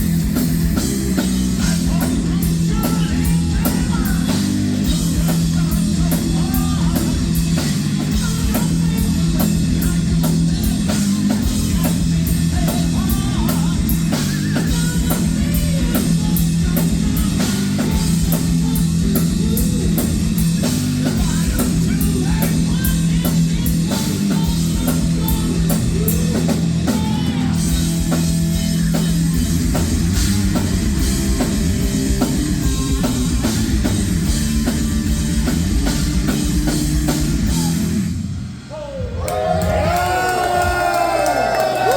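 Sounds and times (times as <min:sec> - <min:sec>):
distorted electric guitar: 0:00.0 - 0:38.6
fast drum and cymbal hits: 0:00.0 - 0:38.6
bass guitar: 0:00.0 - 0:41.9.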